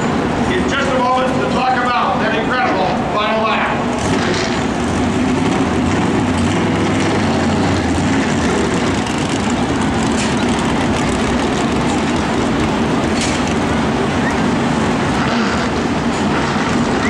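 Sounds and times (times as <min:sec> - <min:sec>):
background rush: 0:00.0 - 0:17.0
engine drone: 0:00.0 - 0:17.0
low hum: 0:02.9 - 0:17.0.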